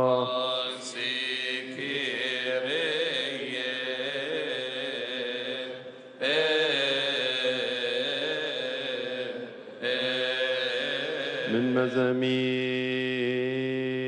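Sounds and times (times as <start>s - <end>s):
choir chanting a hymn: 0.0s - 14.0s.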